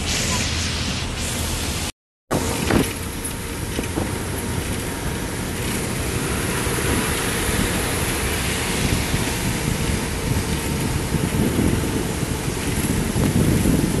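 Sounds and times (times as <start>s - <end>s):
tyre noise on wet road: 0.0s - 14.0s
wind rush: 0.0s - 14.0s.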